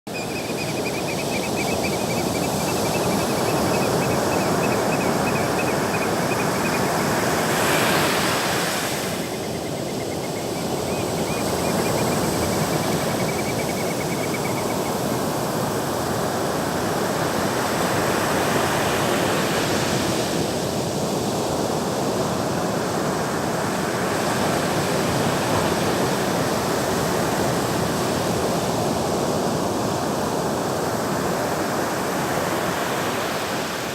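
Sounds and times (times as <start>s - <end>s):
sea waves breaking on shore: 0.1s - 33.9s.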